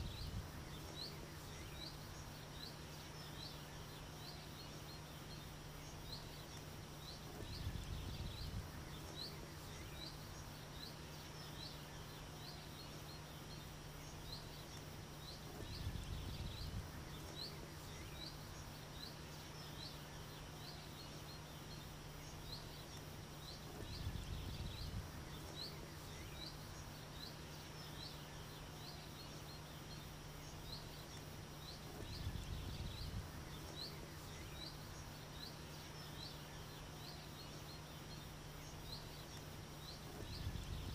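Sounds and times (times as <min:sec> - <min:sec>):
faint steady hum: 0:00.0 - 0:40.9
small bird chirping: 0:00.0 - 0:40.9.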